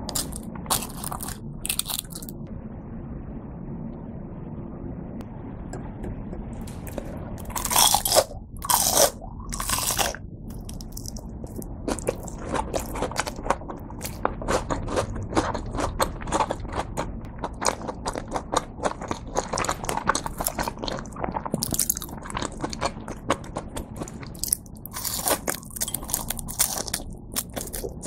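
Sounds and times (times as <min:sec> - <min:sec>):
crunching and chewing: 0:00.0 - 0:02.4, 0:06.9 - 0:28.0.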